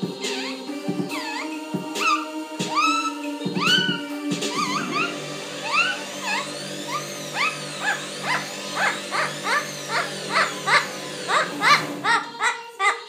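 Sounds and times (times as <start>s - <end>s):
background music: 0.0s - 13.0s
parrot chirping: 0.2s - 13.0s.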